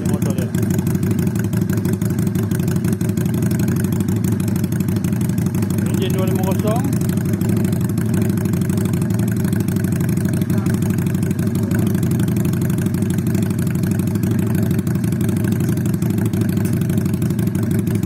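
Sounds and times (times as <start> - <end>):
motorcycle idling: 0.0 - 18.0.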